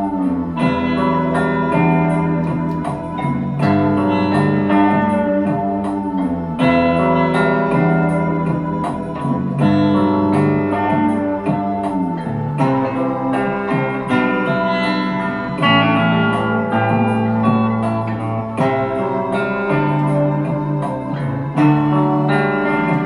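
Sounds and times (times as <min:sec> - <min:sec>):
guitar instrumental music with beat: 0:00.0 - 0:23.0.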